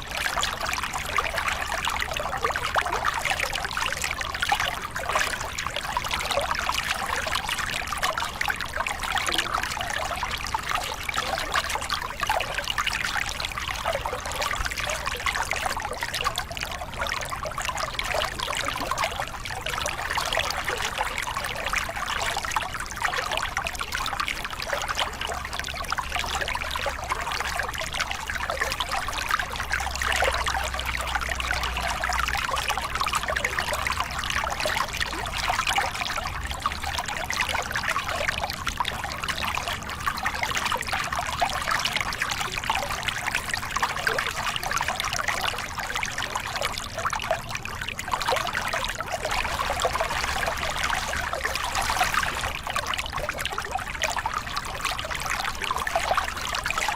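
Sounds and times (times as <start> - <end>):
water splashing over rocks: 0.0 - 56.9.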